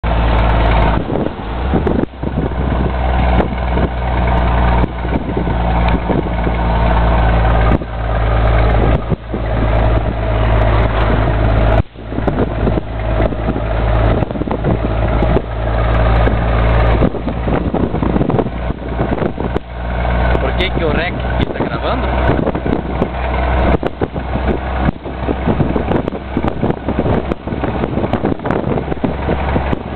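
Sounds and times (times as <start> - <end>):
truck diesel engine running: 0.0 - 29.9.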